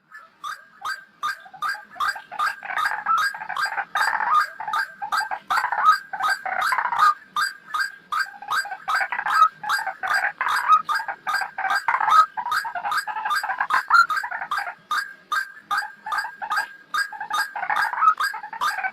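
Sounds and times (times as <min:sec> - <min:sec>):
waterhen croaking call: 0:00.0 - 0:18.9.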